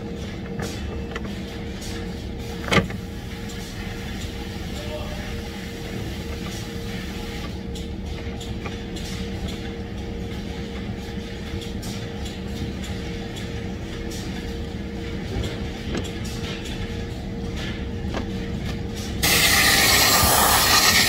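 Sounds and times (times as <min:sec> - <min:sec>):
factory machinery drone: 0:00.0 - 0:21.0.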